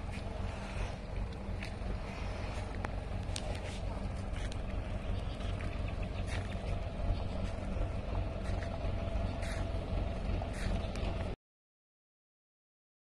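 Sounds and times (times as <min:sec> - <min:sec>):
tractor engine idling: 0:00.0 - 0:11.4.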